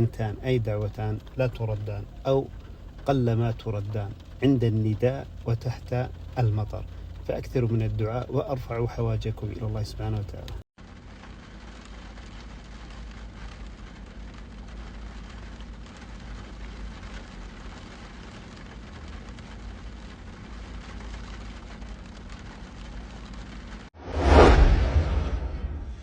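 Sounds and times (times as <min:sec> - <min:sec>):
steady rainfall: 0:00.0 - 0:23.9
low continuous rumble: 0:00.0 - 0:26.0.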